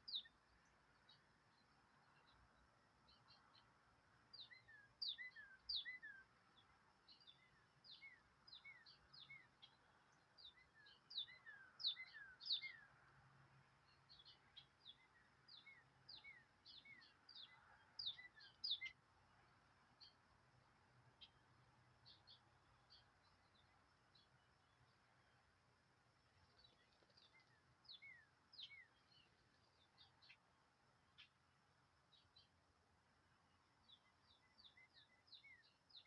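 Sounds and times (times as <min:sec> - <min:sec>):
small birds chirping: 0:00.0 - 0:12.9, 0:13.8 - 0:25.4, 0:26.1 - 0:32.6, 0:33.4 - 0:36.0
light background hiss: 0:00.0 - 0:36.0.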